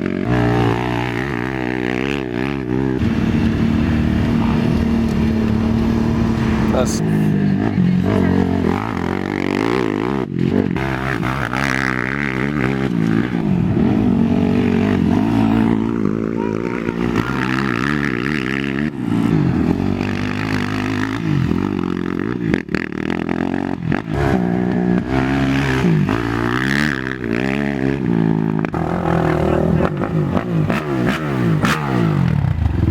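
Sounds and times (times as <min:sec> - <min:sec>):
quad engines revving: 0:00.0 - 0:32.9.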